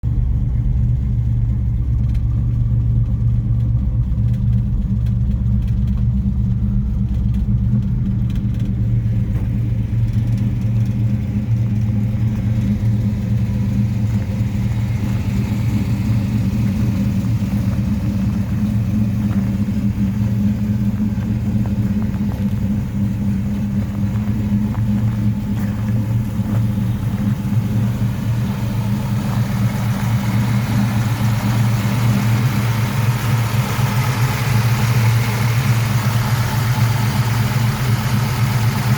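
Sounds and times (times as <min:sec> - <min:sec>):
car engine at high idle: 0:00.0 - 0:38.9.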